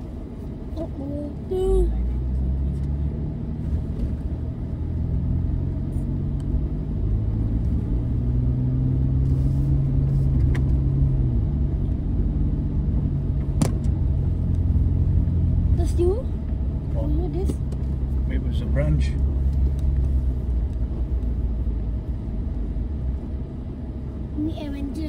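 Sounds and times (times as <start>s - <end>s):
vehicle engine under load: 0.0s - 25.0s.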